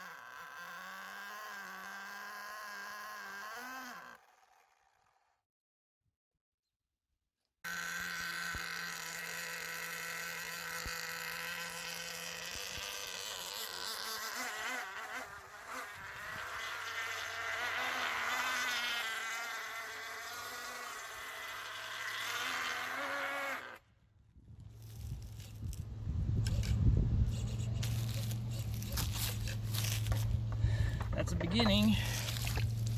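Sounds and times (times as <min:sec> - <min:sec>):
small nitro engine buzzing: 0:00.0 - 0:05.4, 0:07.6 - 0:24.0, 0:24.7 - 0:31.0.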